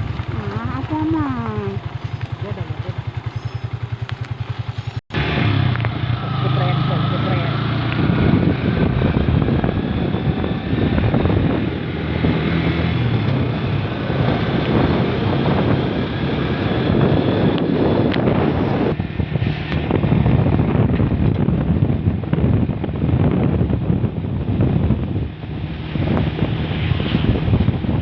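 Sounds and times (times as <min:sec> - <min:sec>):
road and engine noise: 0:00.0 - 0:28.0
wind buffeting microphone: 0:00.0 - 0:28.0.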